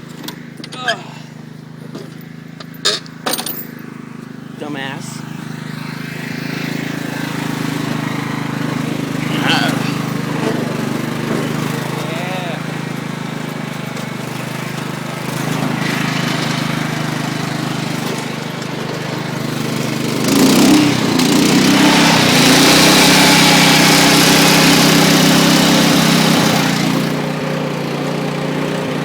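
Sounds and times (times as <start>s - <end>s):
riding lawn tractor engine: 0.0s - 29.0s.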